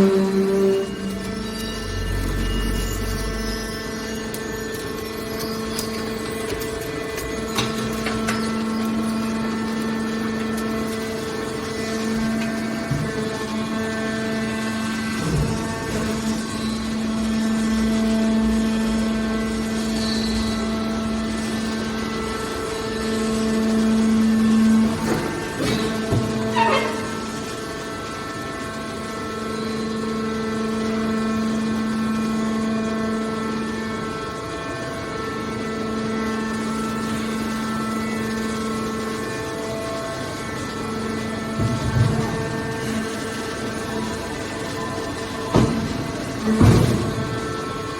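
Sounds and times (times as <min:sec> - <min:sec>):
hydraulic baler machine hum: 0:00.0 - 0:47.9.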